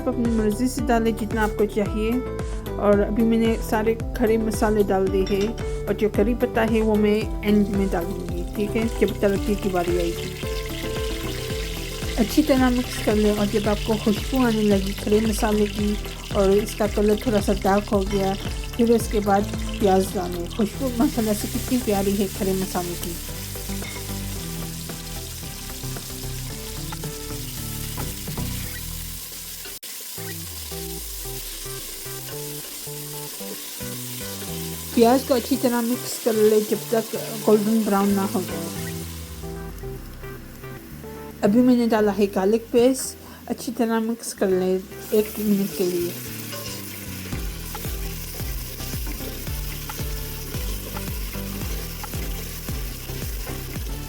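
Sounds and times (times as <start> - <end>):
spices sizzling in hot oil: 0.1 - 54.0.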